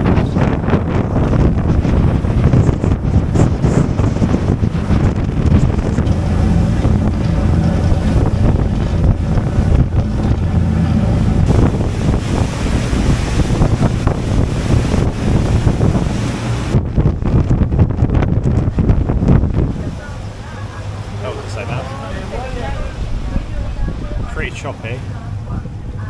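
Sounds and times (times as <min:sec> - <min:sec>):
low drone of ferry engines: 0:00.0 - 0:26.0
rush of churning wake: 0:00.0 - 0:26.0
wind buffeting microphone: 0:00.0 - 0:26.0.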